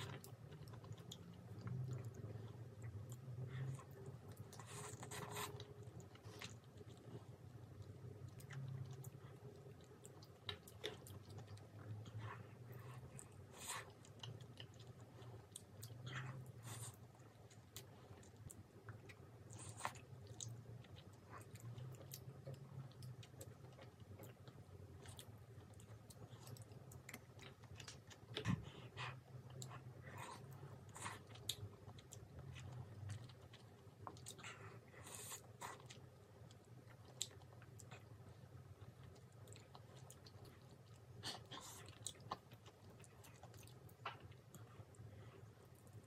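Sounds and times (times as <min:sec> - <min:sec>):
chewing and biting: 0:00.0 - 0:46.0
faint steady low hum: 0:00.0 - 0:46.0.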